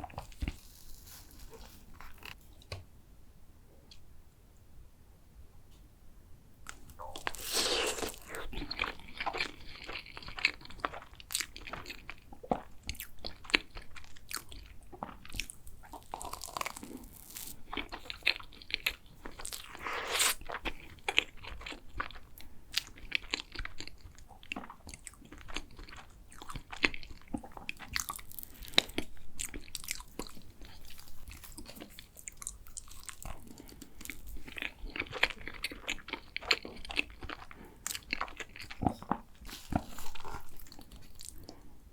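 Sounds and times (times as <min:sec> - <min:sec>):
person chewing cake: 0:06.7 - 0:41.7.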